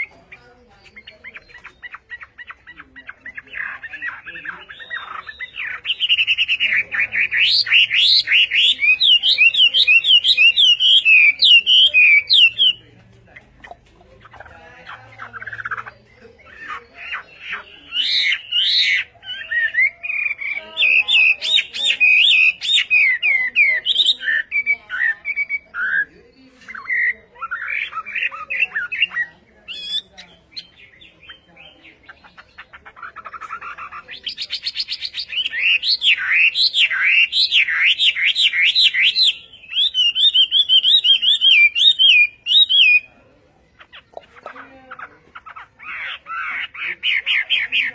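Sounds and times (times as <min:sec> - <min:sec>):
songbird singing: 0:00.0 - 0:47.9.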